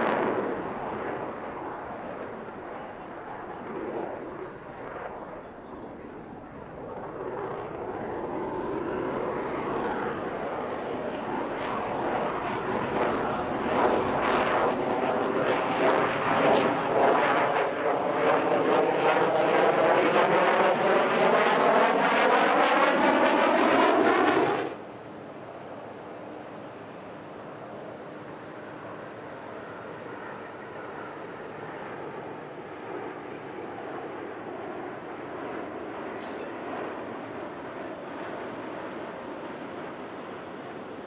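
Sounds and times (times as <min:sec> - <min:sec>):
jet engine roar: 0:00.0 - 0:41.0.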